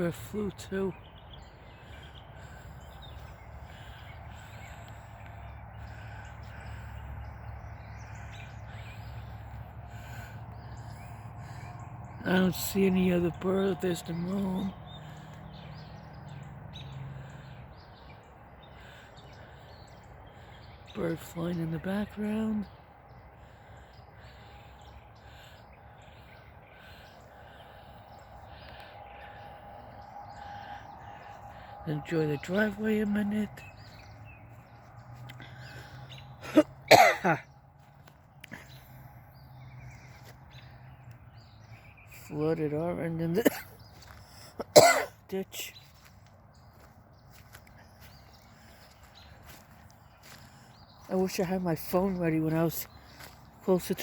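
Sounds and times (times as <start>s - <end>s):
birds chirping faintly: 0.0s - 54.0s
steady low rumble: 0.0s - 54.0s.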